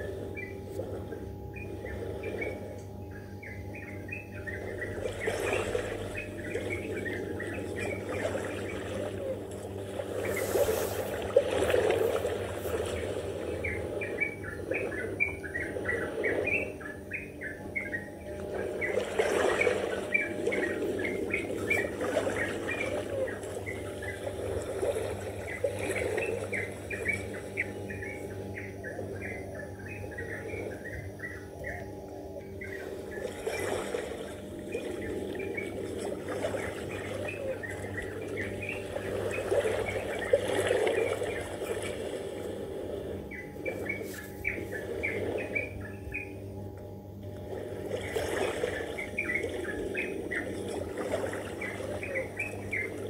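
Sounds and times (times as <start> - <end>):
small birds chirping: 1.5 - 42.3, 43.2 - 46.7, 48.0 - 53.0.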